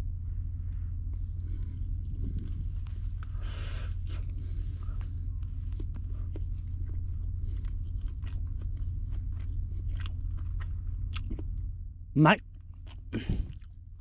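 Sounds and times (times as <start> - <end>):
steady low rumble: 0.0 - 14.0
person chewing and crunching food: 1.5 - 11.8, 12.5 - 14.0.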